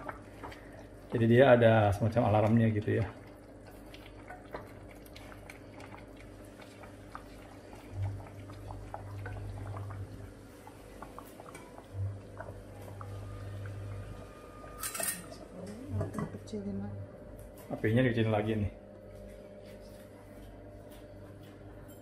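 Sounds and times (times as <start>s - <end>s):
broth bubbling in a pot: 0.0s - 21.8s
steady low hum: 0.0s - 22.0s.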